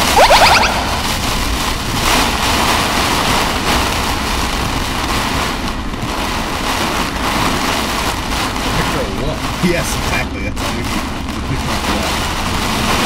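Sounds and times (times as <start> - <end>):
heavy rain on vehicle roof: 1.2 - 13.0.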